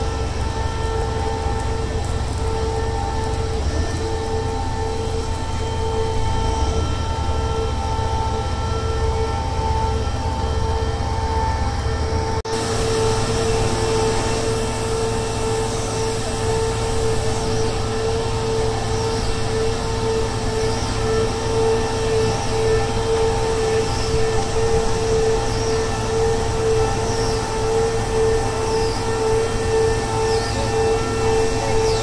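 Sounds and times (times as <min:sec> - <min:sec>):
piling rig engine droning: 0:00.0 - 0:32.0
steady high whine: 0:00.0 - 0:32.0.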